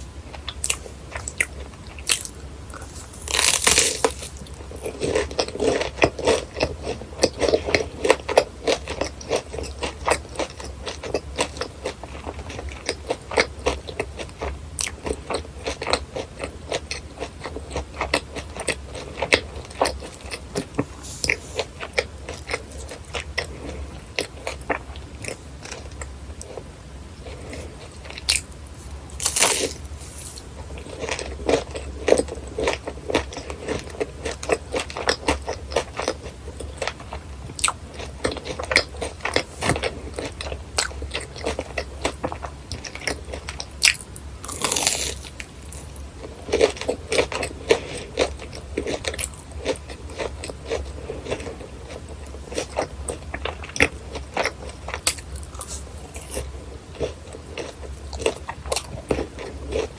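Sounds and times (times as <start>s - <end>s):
crunching and chewing churros: 0.3s - 59.9s.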